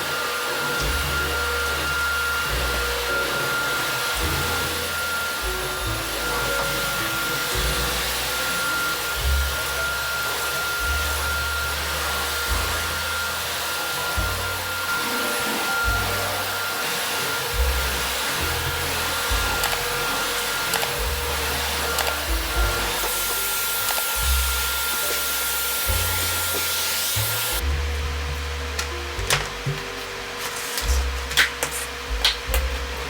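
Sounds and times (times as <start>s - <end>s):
vacuum cleaner running: 0.0s - 33.0s
background music with bass line: 0.8s - 15.0s, 17.4s - 33.0s.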